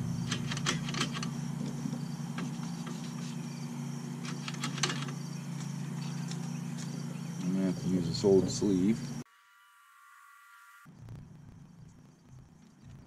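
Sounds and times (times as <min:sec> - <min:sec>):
low machine hum: 0:00.0 - 0:09.2, 0:10.9 - 0:13.0.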